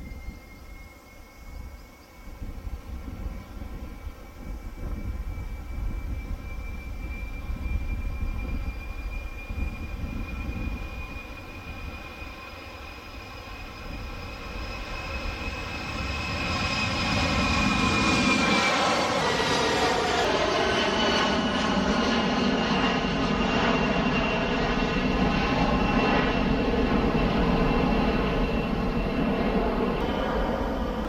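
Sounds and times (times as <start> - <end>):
jet engines at takeoff: 0.0 - 31.0.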